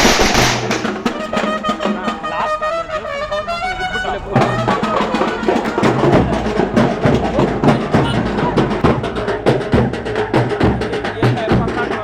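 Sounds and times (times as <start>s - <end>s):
drums playing fast rhythm: 0.0s - 12.0s.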